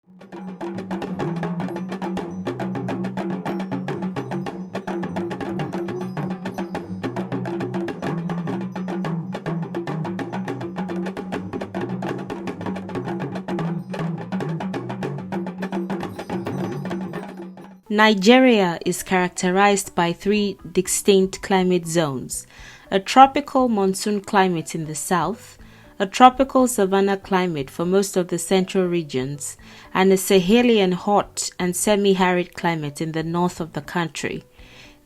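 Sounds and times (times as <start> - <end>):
wood-block-like percussion: 0.1 - 35.0.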